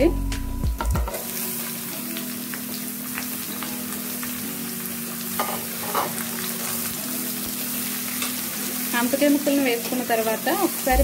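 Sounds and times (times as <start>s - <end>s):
vegetables sizzling in hot oil: 0.8s - 11.0s.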